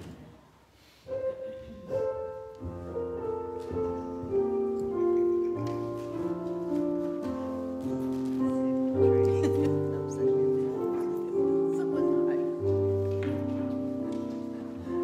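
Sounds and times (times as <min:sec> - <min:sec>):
slow keyboard chords: 0:01.1 - 0:15.0.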